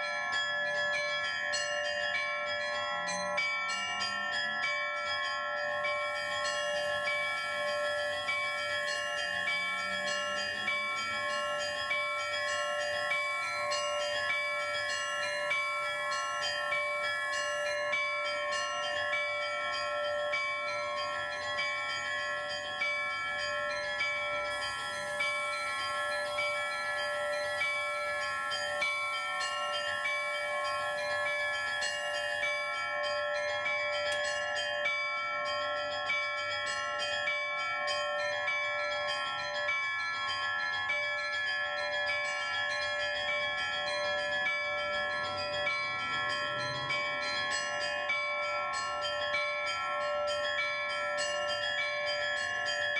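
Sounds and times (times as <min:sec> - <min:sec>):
small high church bells: 0:00.0 - 0:52.9
large church bells ringing: 0:00.8 - 0:39.7, 0:41.7 - 0:52.9.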